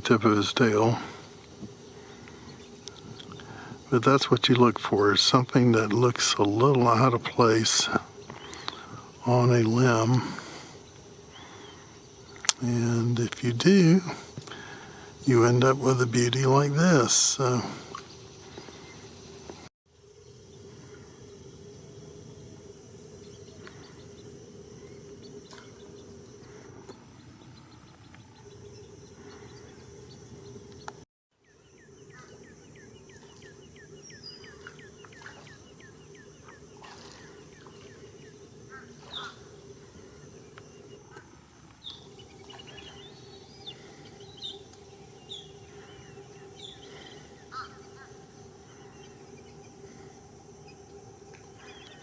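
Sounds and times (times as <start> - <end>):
steady low hum: 0.0 - 52.0
wild birds chirping: 0.0 - 52.0.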